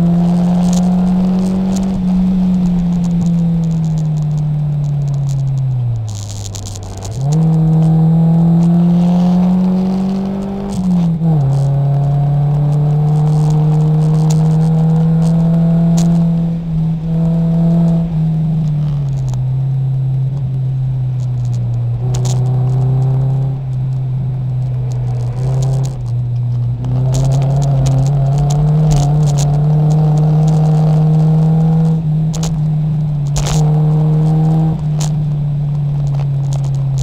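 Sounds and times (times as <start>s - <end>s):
race car engine: 0.0s - 37.0s.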